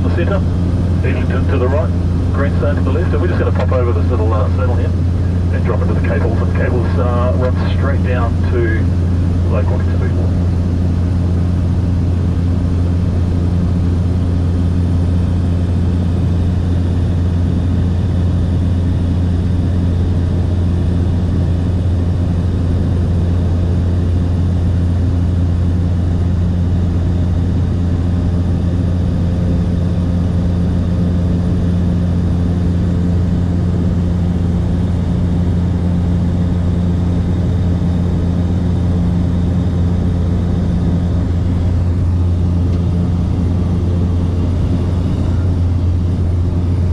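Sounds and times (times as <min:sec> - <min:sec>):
propeller aircraft cabin drone: 0:00.0 - 0:46.9.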